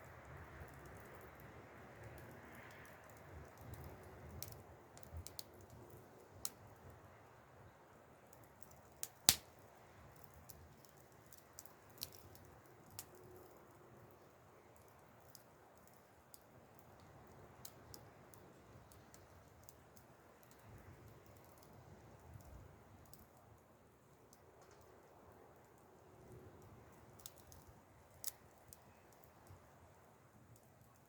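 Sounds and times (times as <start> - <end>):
wood fire crackling: 0.0 - 7.4, 8.1 - 31.0.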